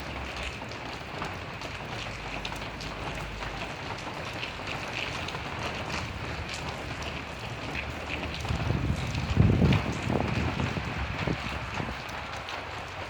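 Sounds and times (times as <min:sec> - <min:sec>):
raindrop ticks: 0:00.0 - 0:13.0.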